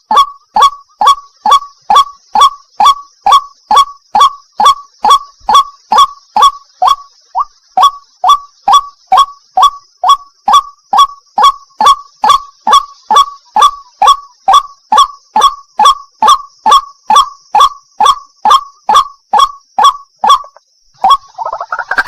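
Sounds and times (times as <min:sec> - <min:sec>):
waterhen calling kwak: 0:00.0 - 0:22.0.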